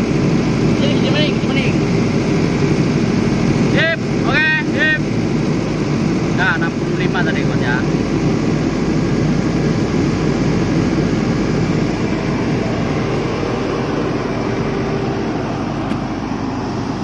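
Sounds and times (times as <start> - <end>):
diesel generator running: 0.0 - 17.0.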